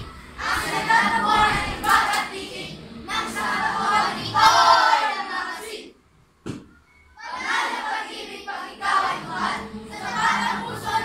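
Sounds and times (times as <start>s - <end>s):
children singing in unison: 0.0s - 6.0s, 7.2s - 11.0s.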